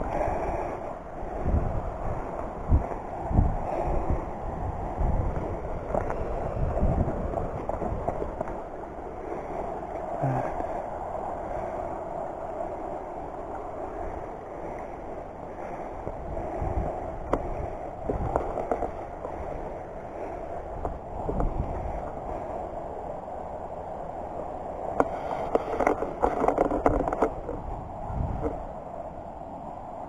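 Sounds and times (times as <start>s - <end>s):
river running over rocks: 0.0s - 30.0s
wind buffeting microphone: 0.0s - 30.0s.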